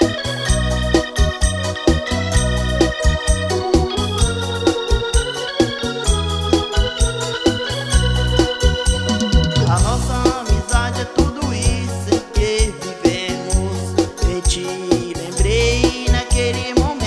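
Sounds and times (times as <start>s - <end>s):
pulsing bass line: 0.0s - 14.6s, 15.4s - 17.0s
electronic organ chords: 0.0s - 17.0s
steady beat: 0.0s - 17.0s.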